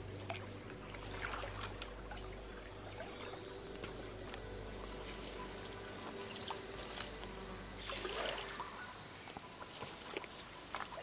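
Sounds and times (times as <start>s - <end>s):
faint trickling water: 0.0s - 11.0s
insects droning: 0.0s - 11.0s.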